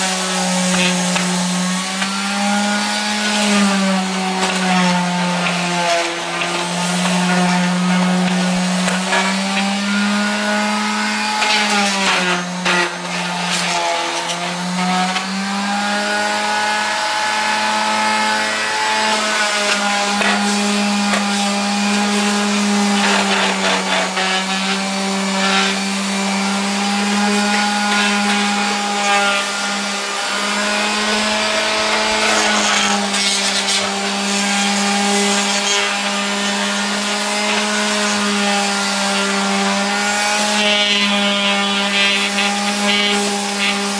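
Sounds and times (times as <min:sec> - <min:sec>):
orbital sander sanding wood: 0:00.0 - 0:43.9.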